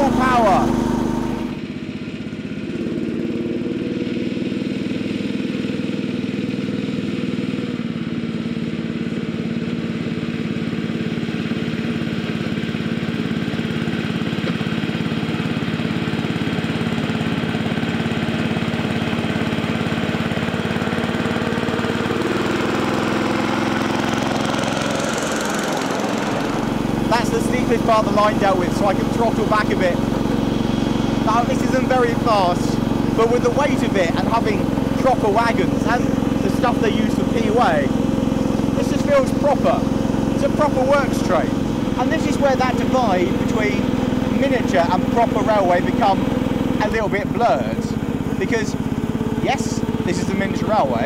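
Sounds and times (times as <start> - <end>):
small petrol engine labouring: 0.0 - 51.0.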